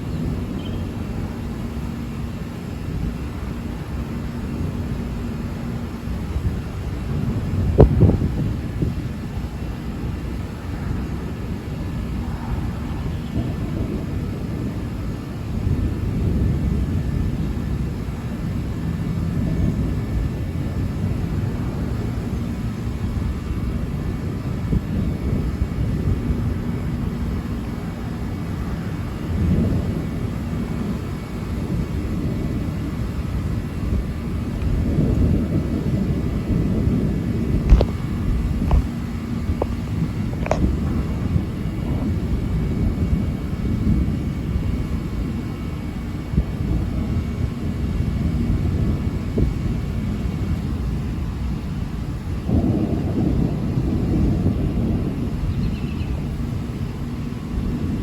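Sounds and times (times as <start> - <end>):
thunder rumbling: 0.0 - 58.0.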